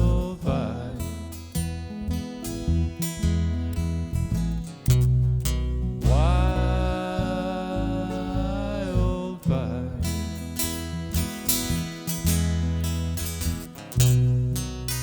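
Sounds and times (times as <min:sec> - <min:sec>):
bass: 0:00.0 - 0:15.0
strummed acoustic guitars: 0:00.0 - 0:15.0.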